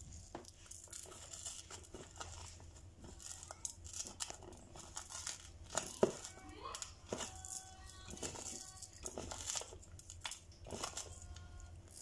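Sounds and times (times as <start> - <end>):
dried chilies crackling crumbled: 0.0 - 12.0.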